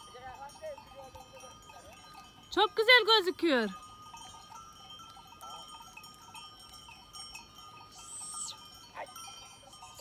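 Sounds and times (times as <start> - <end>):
animal bells clinking: 0.0 - 10.0.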